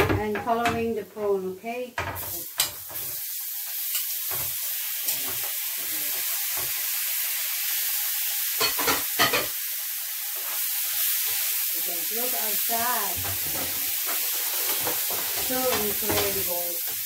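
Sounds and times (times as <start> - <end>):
prawns sizzling in a frying pan: 2.0 - 17.0.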